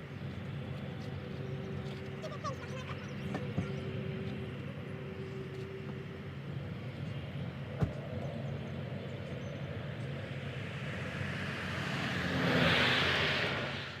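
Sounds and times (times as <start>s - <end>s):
aircraft engine rumble: 0.0s - 14.0s.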